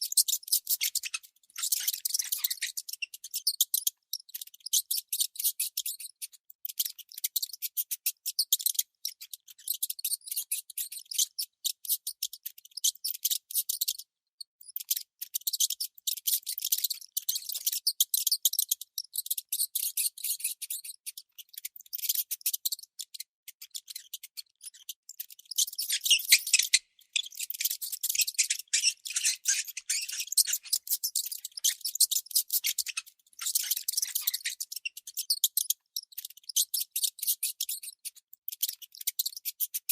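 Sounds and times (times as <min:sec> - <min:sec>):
baby mice squeaking: 0:00.0 - 0:39.9.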